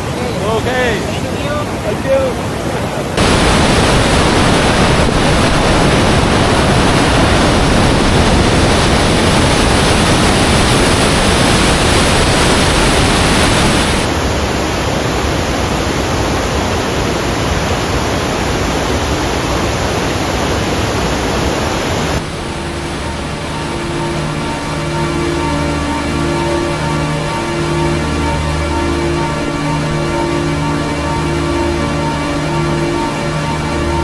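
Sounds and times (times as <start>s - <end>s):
waterfall and rapids rushing: 0.0s - 34.0s.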